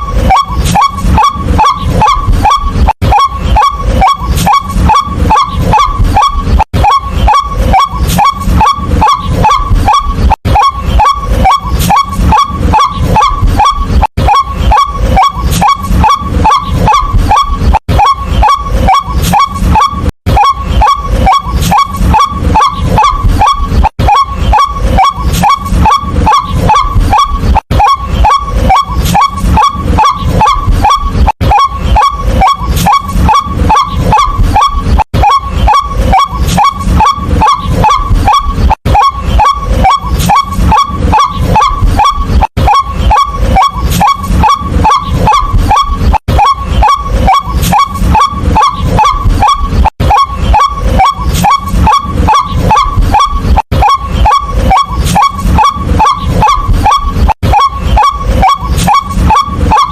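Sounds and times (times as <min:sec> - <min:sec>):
bird calling kwak notes: 0:00.0 - 0:59.9.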